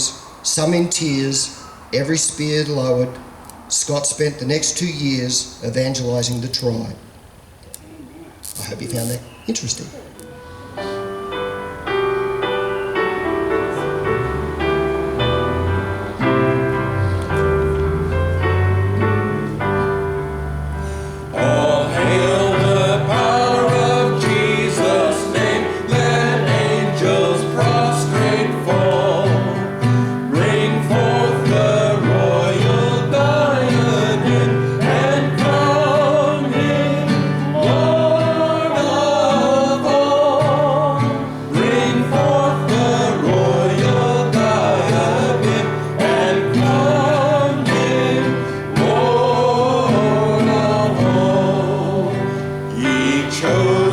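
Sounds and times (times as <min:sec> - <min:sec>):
voices singing gospel hymn: 0:00.0 - 0:07.6, 0:08.6 - 0:53.9
instrumental accompaniment: 0:10.2 - 0:53.9.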